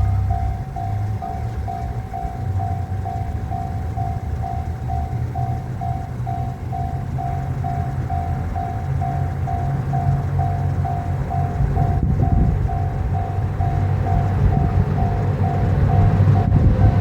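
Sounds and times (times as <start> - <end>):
diesel train rumble: 0.0 - 17.0
railroad crossing bell dinging: 0.0 - 17.0.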